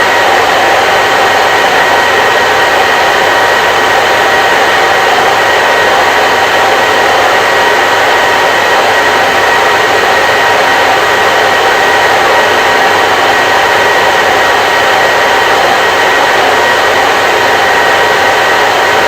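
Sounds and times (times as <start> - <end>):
hair dryer running: 0.0 - 19.0.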